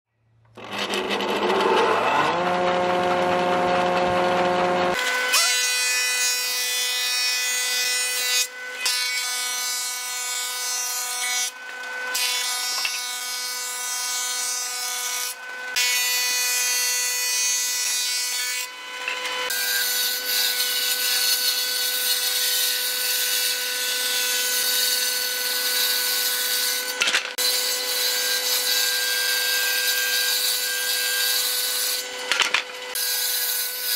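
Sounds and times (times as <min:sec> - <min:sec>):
blades cutting wood: 0:00.4 - 0:33.9
woodworking machine whining: 0:00.4 - 0:33.9.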